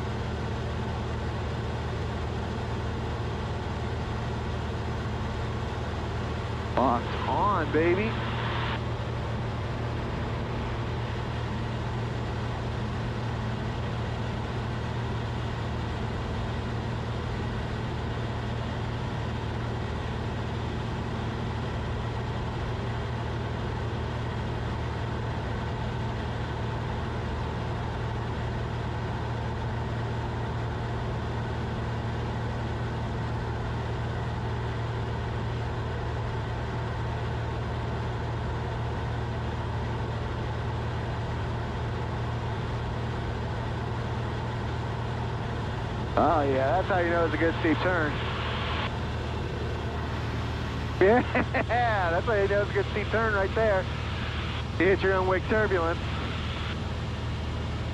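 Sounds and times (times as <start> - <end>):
aircraft engine and propeller drone: 0.0 - 57.9.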